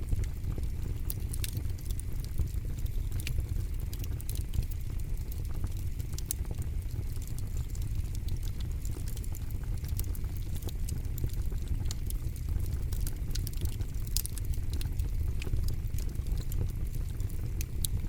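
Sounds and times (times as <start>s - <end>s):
campfire snaps and pops: 0.0s - 18.0s
low rumble of burning wood: 0.0s - 18.0s.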